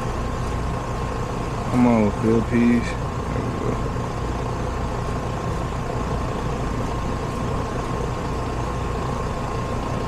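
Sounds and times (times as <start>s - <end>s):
air conditioner hum: 0.0s - 10.0s.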